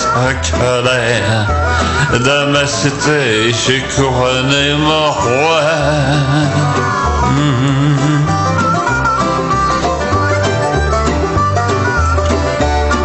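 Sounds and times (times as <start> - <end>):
plucked strings: 0.0 - 13.0
steady bass line: 0.0 - 13.0.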